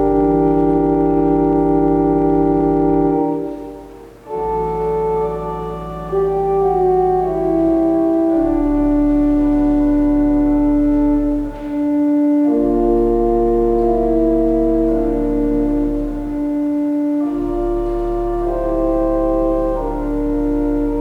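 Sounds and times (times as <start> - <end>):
deep organ bass note: 0.0 - 21.0
organ playing held chords: 0.0 - 21.0.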